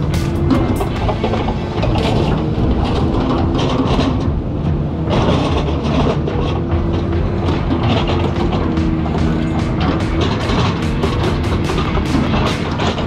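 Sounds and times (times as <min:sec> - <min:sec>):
excavator engine under load: 0:00.0 - 0:13.0
metal clanking and scraping: 0:00.0 - 0:13.0.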